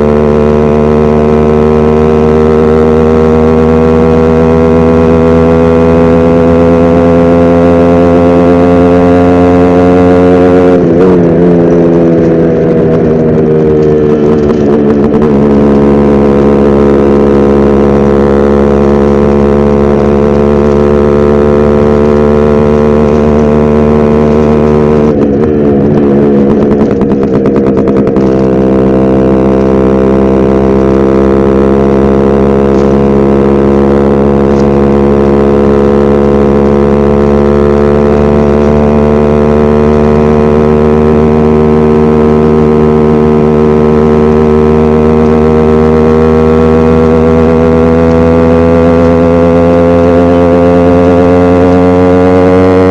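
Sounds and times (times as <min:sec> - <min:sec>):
motorcycle engine running steadily: 0:00.0 - 0:52.9.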